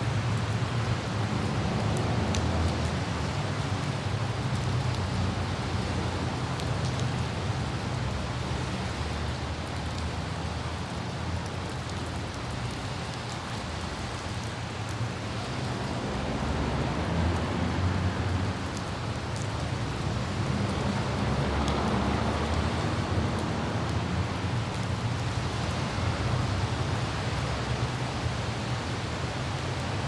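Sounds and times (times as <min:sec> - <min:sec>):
city traffic rumble: 0:00.0 - 0:30.0
light rain with droplet ticks: 0:00.0 - 0:30.0.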